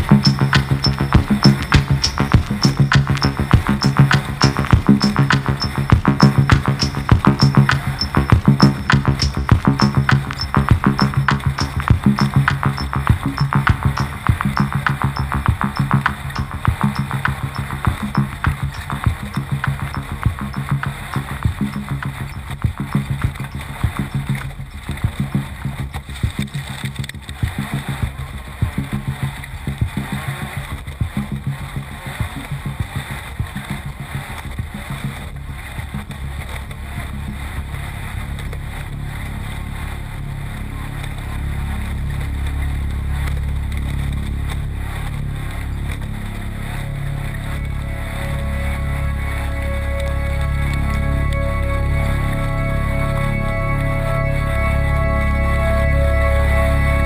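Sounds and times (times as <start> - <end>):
music: 0.0 - 57.0.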